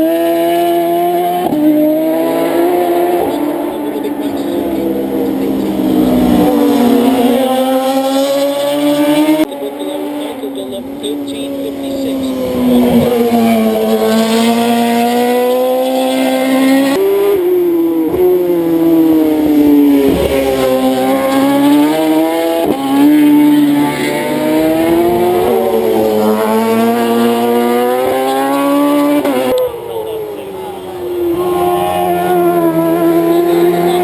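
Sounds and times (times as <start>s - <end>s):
racing motorcycles passing: 0.0s - 34.0s.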